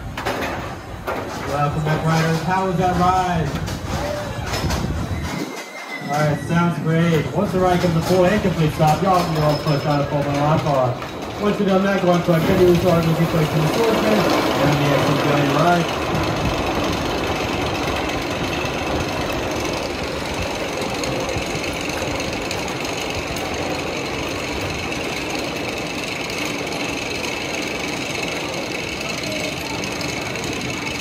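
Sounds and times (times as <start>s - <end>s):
machinery rattling: 0.0s - 31.0s.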